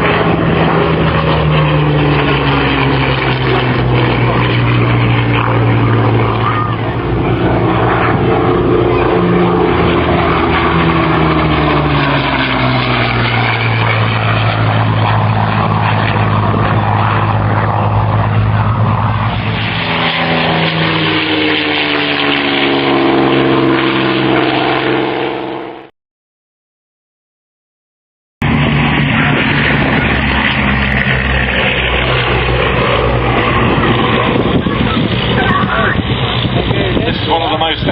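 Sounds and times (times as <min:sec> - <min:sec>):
propeller plane engine passing overhead: 0:00.0 - 0:25.9, 0:28.4 - 0:37.9.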